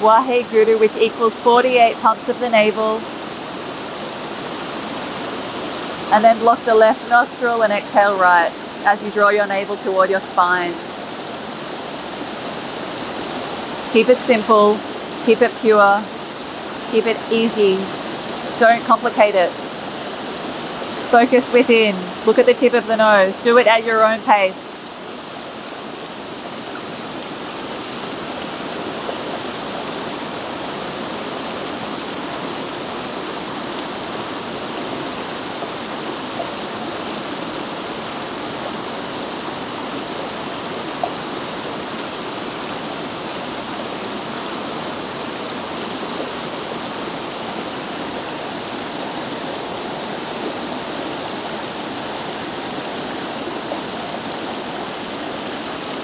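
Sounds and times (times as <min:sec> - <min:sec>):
stream water rushing over boulders: 0:00.0 - 0:56.0.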